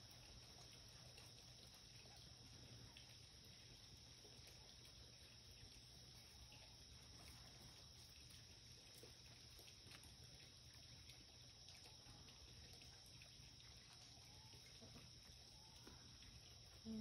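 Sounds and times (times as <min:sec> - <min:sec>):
faint background hum and hiss: 0:00.0 - 0:17.0.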